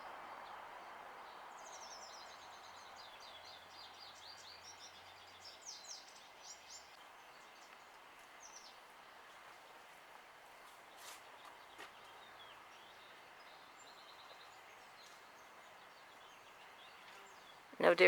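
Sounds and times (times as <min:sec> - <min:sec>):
outdoor background hiss: 0:00.0 - 0:18.0
songbird chirping: 0:00.0 - 0:18.0.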